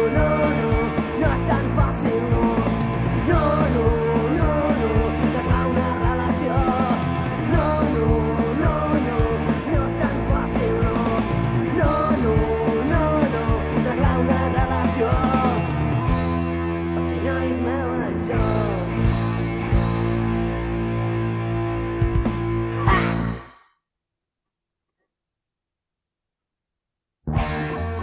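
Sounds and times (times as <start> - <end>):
rock band playing: 0.0 - 23.4, 27.3 - 28.0.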